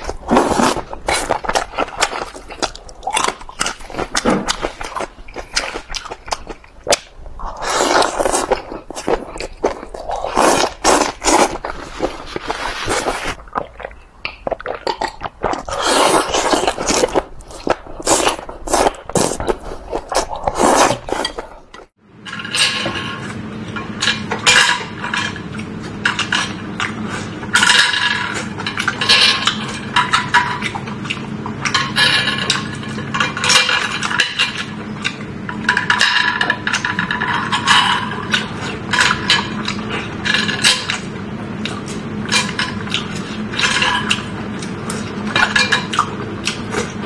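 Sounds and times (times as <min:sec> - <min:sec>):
chewing: 0:00.0 - 0:22.0, 0:25.2 - 0:47.0
noodles slurped and chewed: 0:00.0 - 0:22.0, 0:25.4 - 0:47.0.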